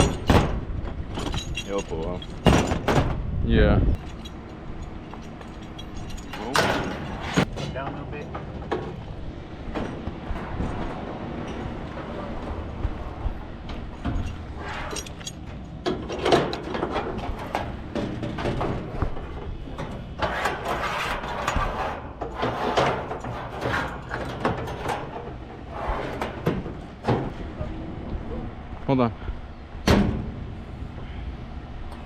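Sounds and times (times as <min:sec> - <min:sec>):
metal clanks and scrapes: 0:00.0 - 0:03.0, 0:04.0 - 0:09.0, 0:09.7 - 0:27.3.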